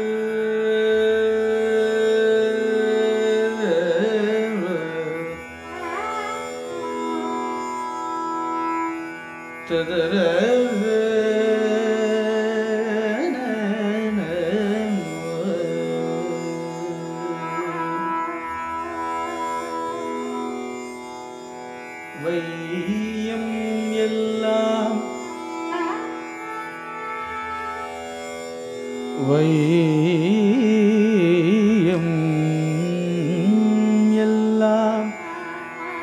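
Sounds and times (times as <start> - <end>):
man singing ornamented phrases: 0.0 - 7.6, 9.6 - 20.4, 22.2 - 26.0, 29.1 - 36.0
violin melody: 0.0 - 36.0.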